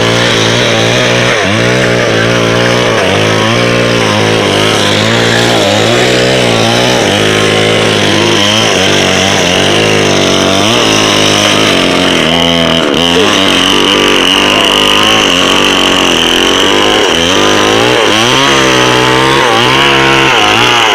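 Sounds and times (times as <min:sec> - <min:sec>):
small engine revving: 0:00.0 - 0:20.9.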